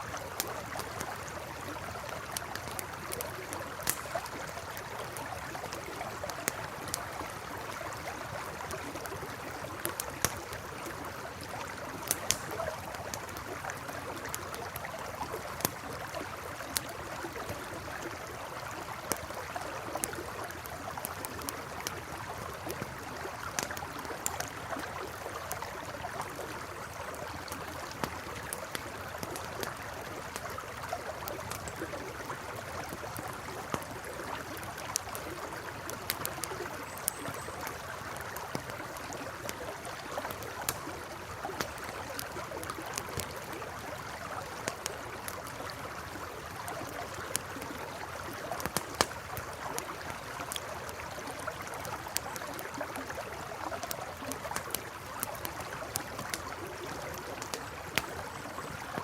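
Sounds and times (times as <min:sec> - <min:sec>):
campfire crackling and popping: 0:00.0 - 0:59.0
river water flowing: 0:00.0 - 0:59.0.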